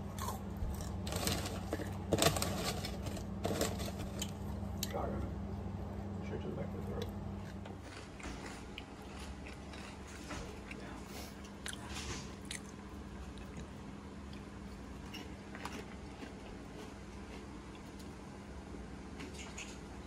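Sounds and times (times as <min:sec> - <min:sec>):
person chewing food: 0:00.0 - 0:04.9, 0:07.0 - 0:19.9
steady low hum: 0:00.0 - 0:20.0.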